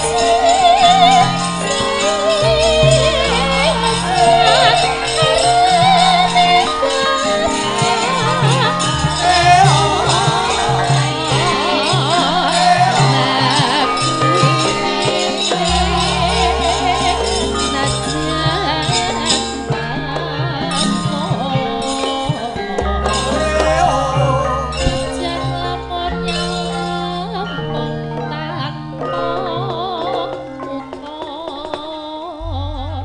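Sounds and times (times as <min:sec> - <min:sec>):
wavering melodic line: 0:00.0 - 0:21.6, 0:23.0 - 0:28.2
metallophone tones: 0:00.0 - 0:29.8.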